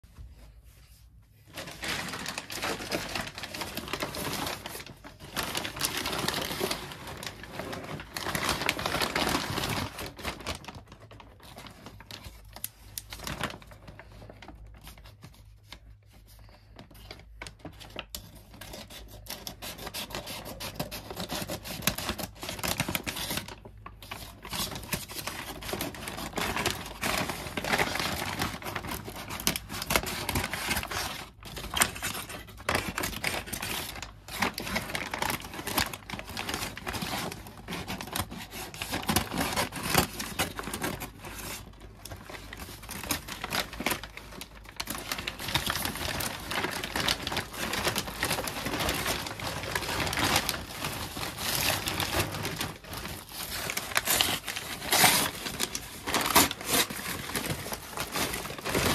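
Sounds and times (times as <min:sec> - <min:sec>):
stiff paper crinkling: 0:00.2 - 0:58.9.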